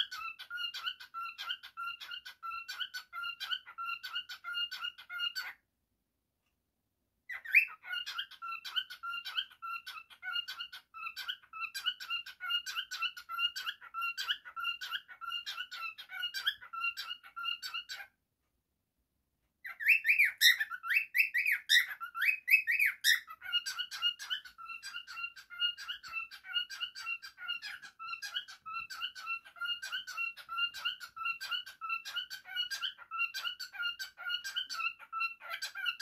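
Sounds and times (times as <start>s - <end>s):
cockatiel whistling: 0.0s - 5.6s, 7.3s - 18.1s, 19.7s - 36.0s.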